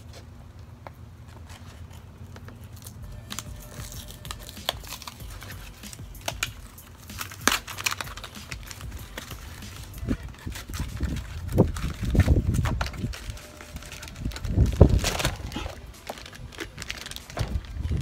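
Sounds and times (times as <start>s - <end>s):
cardboard packaging rustling: 0.0s - 18.0s.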